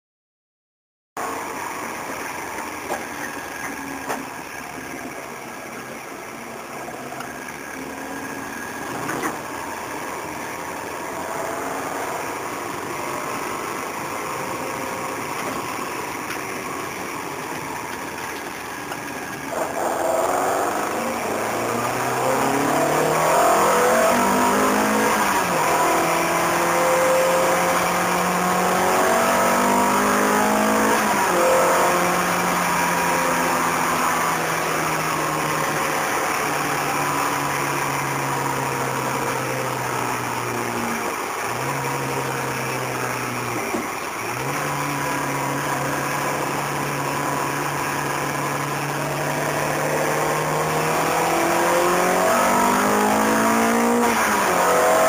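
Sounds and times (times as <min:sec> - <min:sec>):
car engine accelerating: 0:01.2 - 0:55.0.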